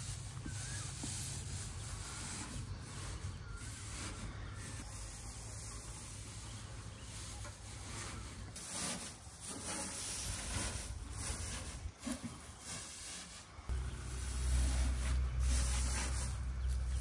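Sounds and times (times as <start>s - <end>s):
dry straw rustling: 0.0s - 17.0s.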